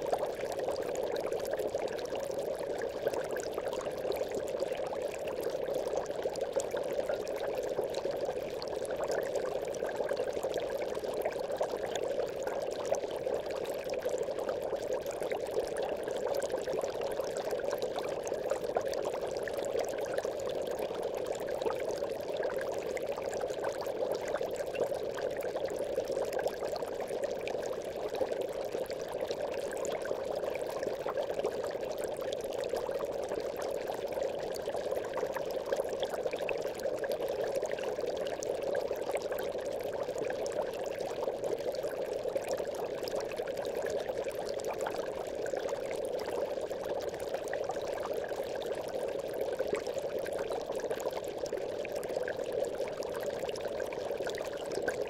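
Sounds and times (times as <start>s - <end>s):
aquarium bubbling: 0.0s - 55.0s.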